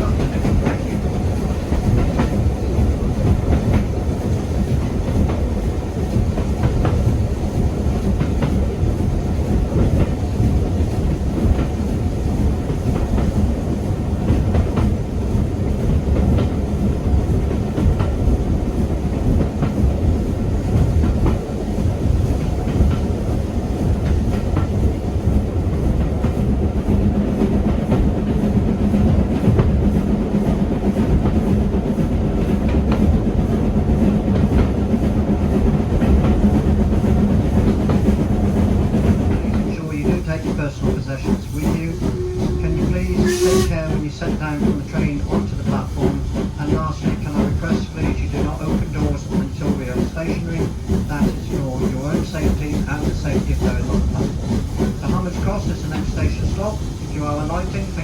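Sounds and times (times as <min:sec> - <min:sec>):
train coach rumbling: 0:00.0 - 0:58.0.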